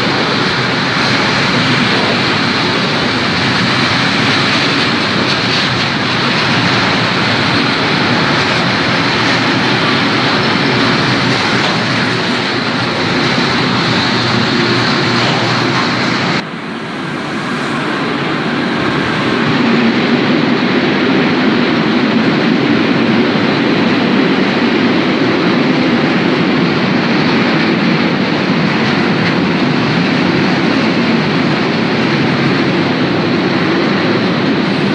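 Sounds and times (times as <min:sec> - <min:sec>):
freight train rumbling past: 0:00.0 - 0:24.0, 0:28.7 - 0:34.9.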